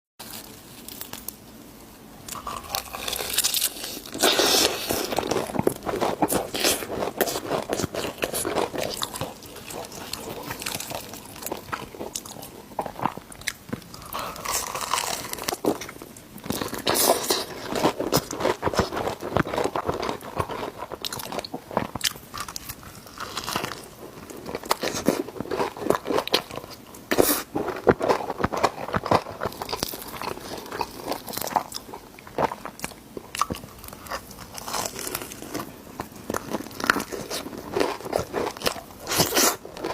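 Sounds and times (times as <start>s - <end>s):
chewing and crunching food: 2.3s - 39.9s.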